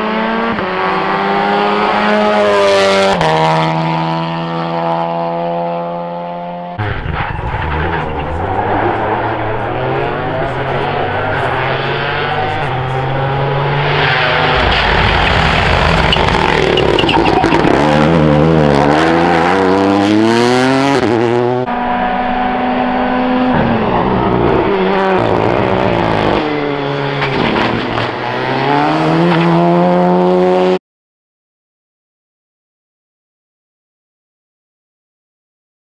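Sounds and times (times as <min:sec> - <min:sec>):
rally car engines revving: 0:00.0 - 0:30.8.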